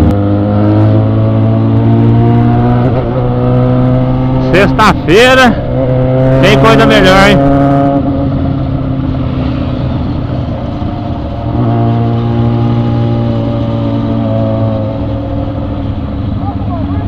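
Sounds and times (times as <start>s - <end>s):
motorcycle cruising: 0.0s - 17.0s
wind and road noise: 0.0s - 17.0s.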